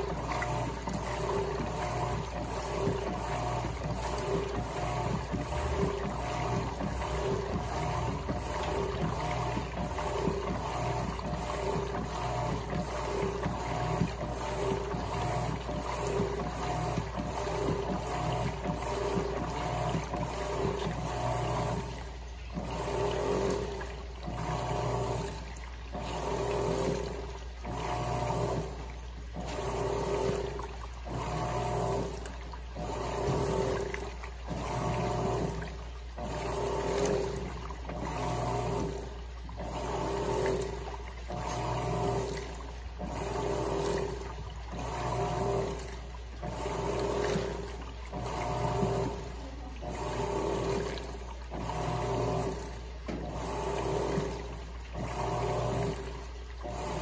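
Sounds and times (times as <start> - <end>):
washing machine motor humming: 0.0 - 57.0
water churning in tub: 0.0 - 57.0.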